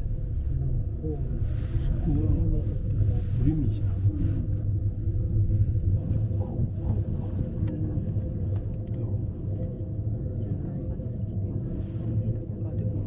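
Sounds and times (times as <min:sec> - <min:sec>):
cable car cabin rumbling: 0:00.0 - 0:13.0
faint constant hum: 0:00.0 - 0:13.0.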